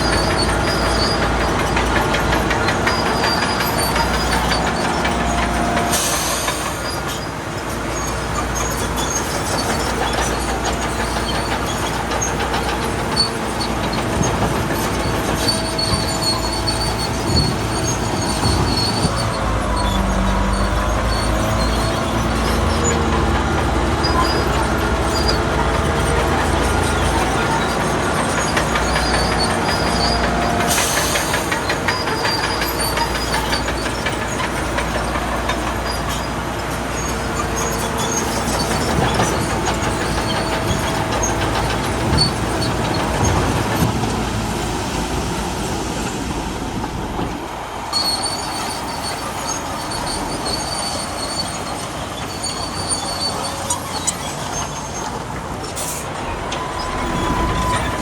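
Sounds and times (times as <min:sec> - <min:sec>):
bulldozer diesel engine: 0:00.0 - 0:58.0
steel tracks clattering: 0:00.0 - 0:58.0
tracks squealing: 0:00.0 - 0:58.0.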